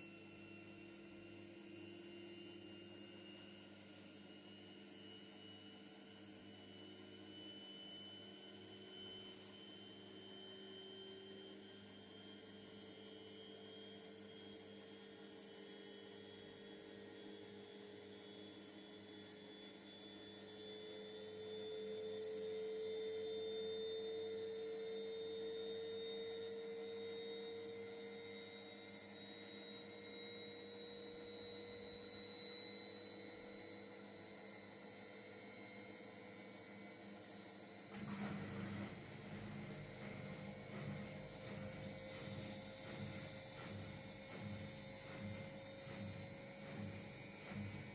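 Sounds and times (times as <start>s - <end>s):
washing machine motor whine: 0.0s - 47.9s.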